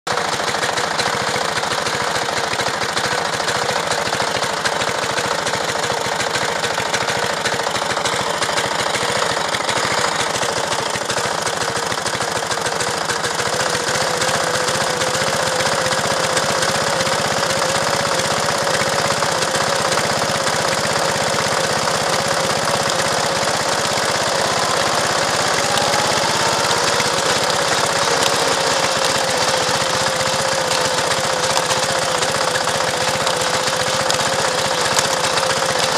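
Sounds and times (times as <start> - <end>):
small engine running: 0.1 - 35.9.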